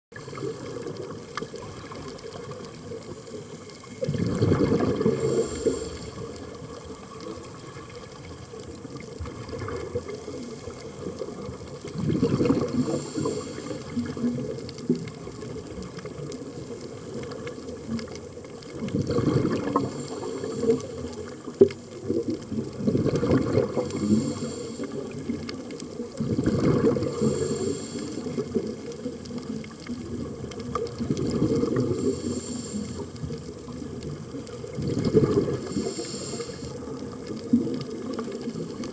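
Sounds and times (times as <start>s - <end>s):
water surging in swells: 0.1s - 38.9s.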